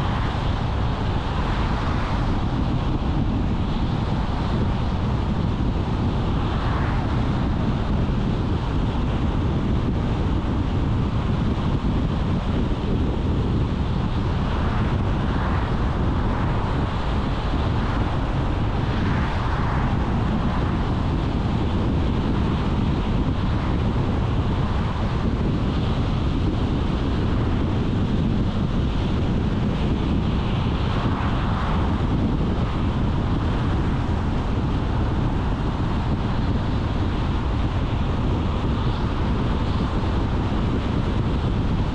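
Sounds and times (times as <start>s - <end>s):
wind: 0.0s - 41.9s.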